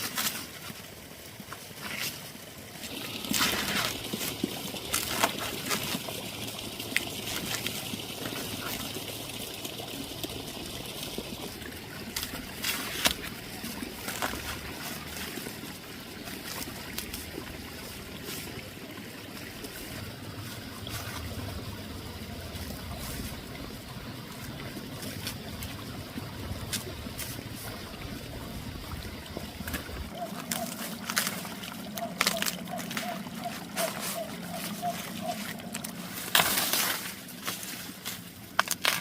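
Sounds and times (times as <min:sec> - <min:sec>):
water trickling: 0:00.0 - 0:39.0.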